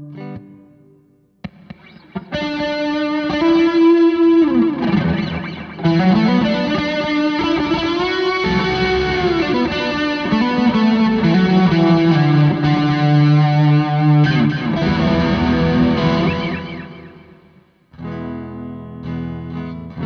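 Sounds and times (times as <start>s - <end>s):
distorted electric guitar: 0.0s - 20.0s.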